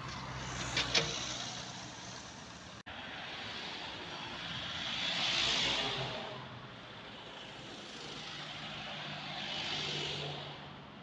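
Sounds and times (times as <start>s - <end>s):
cars passing on asphalt: 0.0s - 11.0s.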